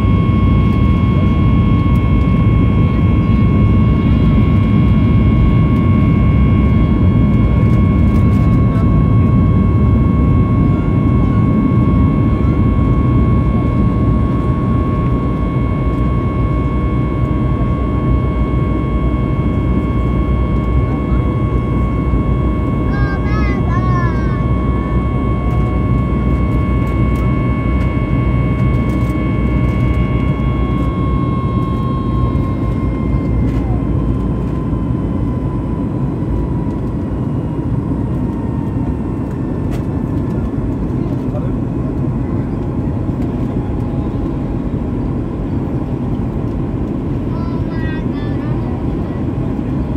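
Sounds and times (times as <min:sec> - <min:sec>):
airplane engines rumbling: 0:00.0 - 0:49.9
thin steady whine: 0:00.0 - 0:49.9.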